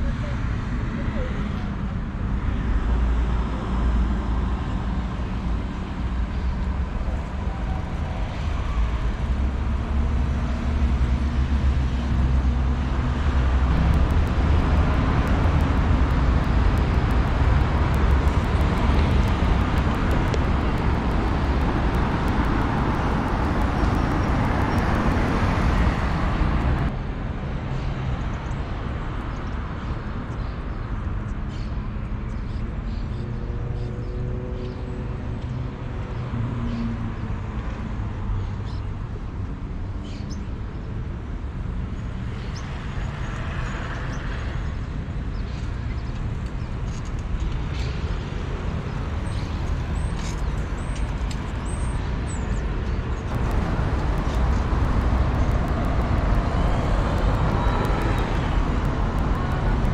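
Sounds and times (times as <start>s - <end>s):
quiet street background: 0.0s - 59.9s
rumble of passing cars: 0.0s - 59.9s.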